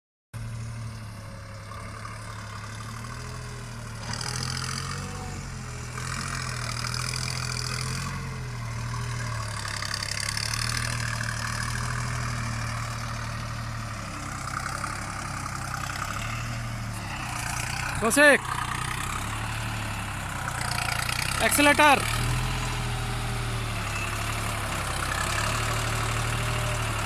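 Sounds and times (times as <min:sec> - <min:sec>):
tractor diesel engine running: 0:00.4 - 0:27.0.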